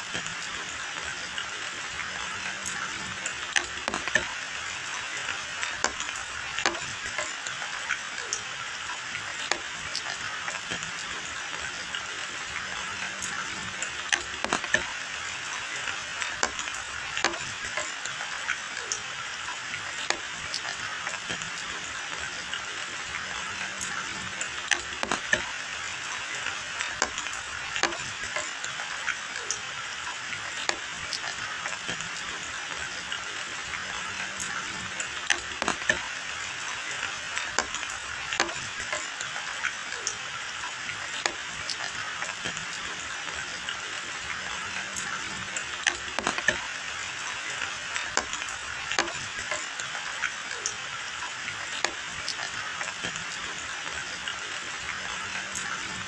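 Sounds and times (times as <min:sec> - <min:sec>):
rain falling on asphalt: 0:00.0 - 0:56.0
raindrops tapping close by: 0:00.0 - 0:56.0.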